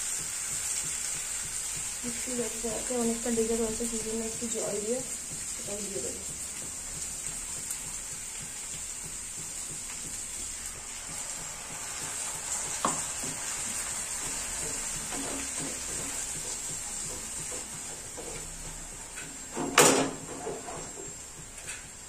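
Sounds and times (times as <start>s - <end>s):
spatula stirring and scraping: 0.0s - 19.6s, 20.2s - 22.0s
spatula knocking on pan: 0.0s - 20.5s
food sizzling in oil: 0.0s - 22.0s.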